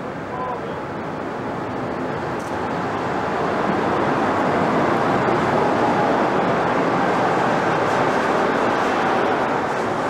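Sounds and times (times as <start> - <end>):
electric locomotive running past: 0.8 - 10.0.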